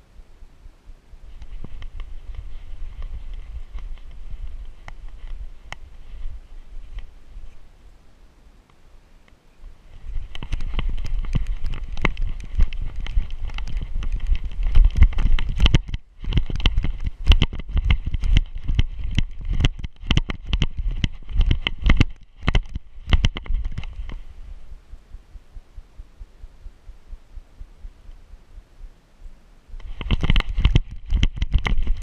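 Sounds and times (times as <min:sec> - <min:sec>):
wind rubbing on camera: 0:00.0 - 0:09.0, 0:09.6 - 0:32.0.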